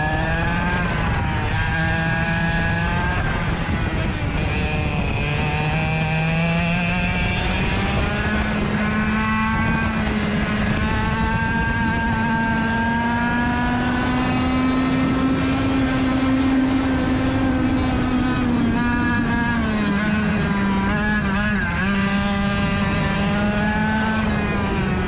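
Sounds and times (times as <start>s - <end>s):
kart engine at high revs: 0.0s - 25.0s.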